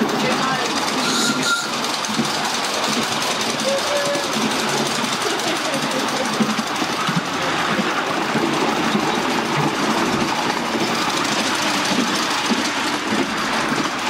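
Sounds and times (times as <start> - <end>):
miniature train running on rails: 0.0 - 14.0.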